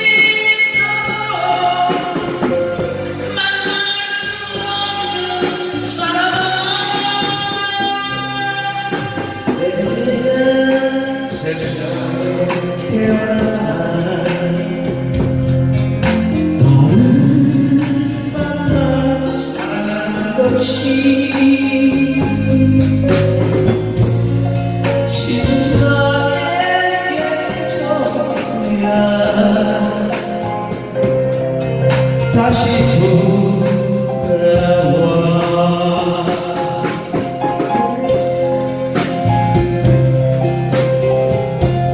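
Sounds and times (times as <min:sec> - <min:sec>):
bending melody line: 0:00.0 - 0:41.9
drum kit beat: 0:00.0 - 0:41.9
keyboard chords: 0:00.0 - 0:41.9.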